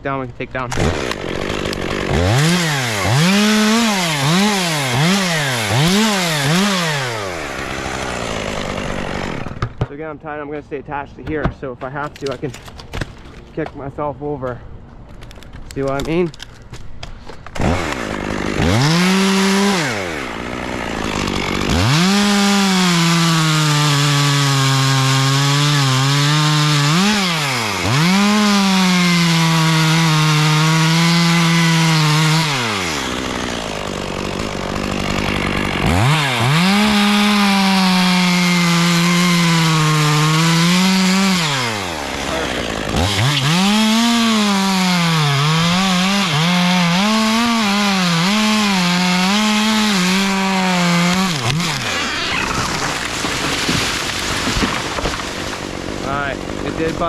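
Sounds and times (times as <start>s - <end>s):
chainsaw cutting wood: 0.6s - 9.9s, 15.1s - 57.0s.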